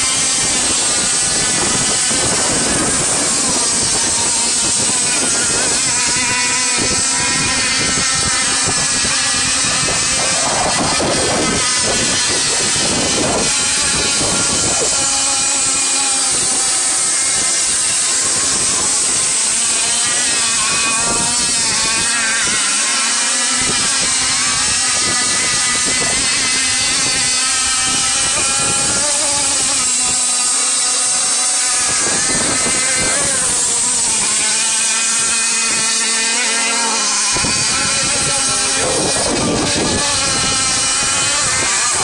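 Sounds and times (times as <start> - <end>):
racing boat engines whining: 0.0 - 42.0.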